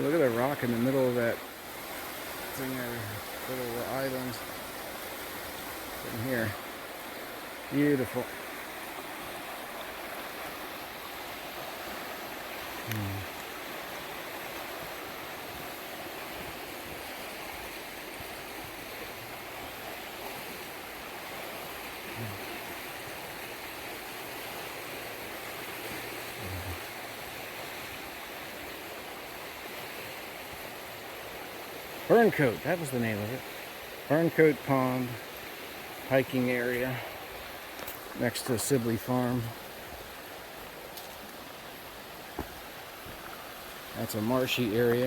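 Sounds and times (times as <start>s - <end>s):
river rushing: 0.0s - 45.0s.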